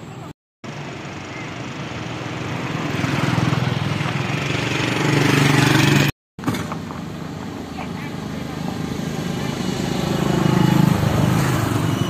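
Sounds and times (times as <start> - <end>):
vehicle engine approaching: 0.6 - 12.0.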